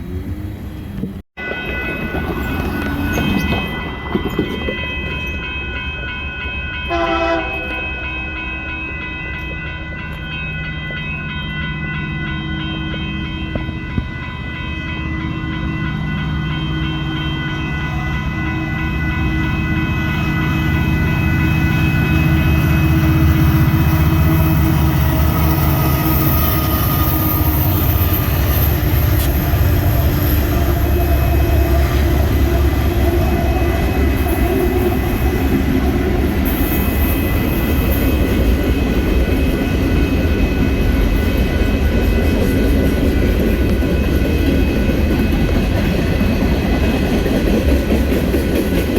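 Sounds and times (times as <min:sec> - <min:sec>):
train passing close by: 0:00.0 - 0:48.9.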